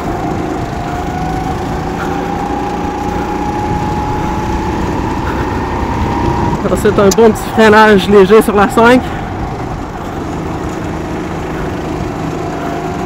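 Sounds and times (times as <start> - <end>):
go-kart engine revving: 0.0 - 13.0.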